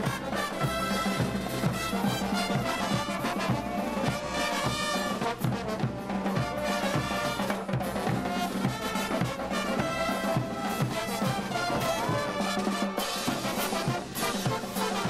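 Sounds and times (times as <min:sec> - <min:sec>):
steady drum beat: 0:00.0 - 0:15.0
trumpets and sousaphones: 0:00.0 - 0:15.0.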